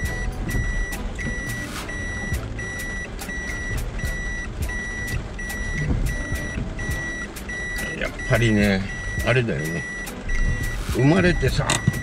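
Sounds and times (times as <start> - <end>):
reverse warning buzzer beeping: 0.0 - 12.0
van engine rumble: 0.0 - 12.0.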